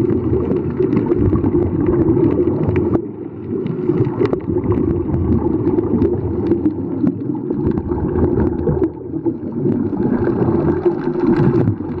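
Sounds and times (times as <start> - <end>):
low underwater rumble: 0.0 - 12.0.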